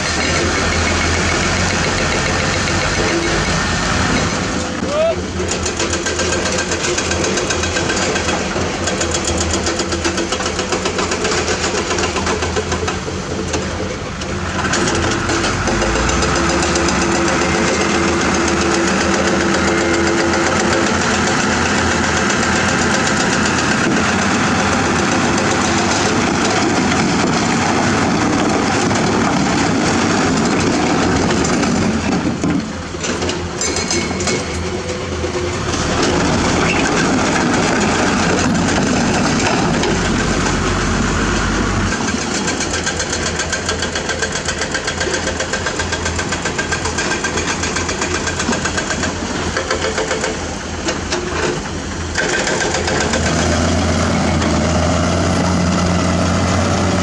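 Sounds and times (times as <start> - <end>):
diesel truck engine running: 0.0 - 33.6, 34.6 - 49.6, 50.3 - 57.0
hydraulic hoist tipping dump bed: 0.0 - 57.0.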